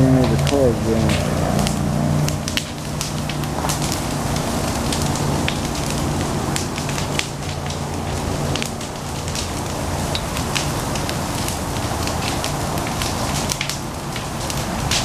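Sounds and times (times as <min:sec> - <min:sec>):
fire crackling and popping: 0:00.0 - 0:15.0
low rushing of fire: 0:00.0 - 0:15.0.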